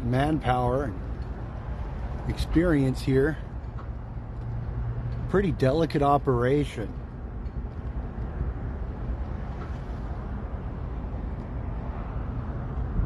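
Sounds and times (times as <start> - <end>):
heavy equipment engines rumbling: 0.0 - 13.0.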